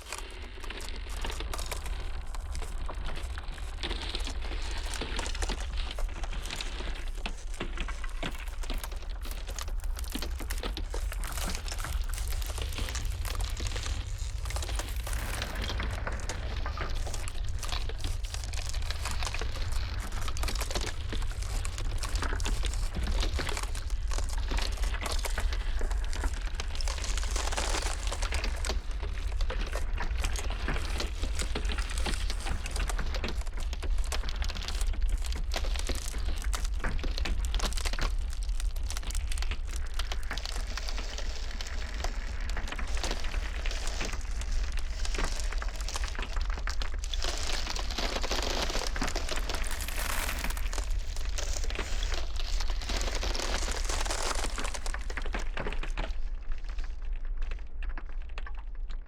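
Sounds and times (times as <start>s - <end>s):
blizzard wind rumble: 0.0s - 58.4s
ice cracking: 0.0s - 59.0s.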